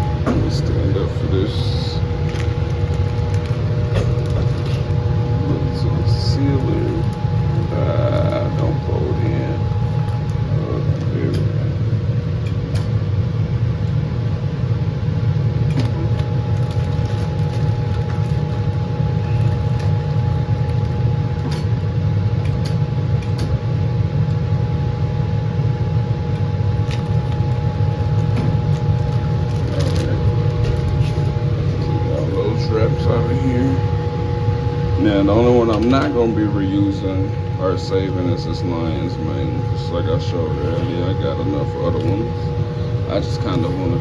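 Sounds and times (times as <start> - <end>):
laminar flow hood blower humming: 0.0 - 44.0.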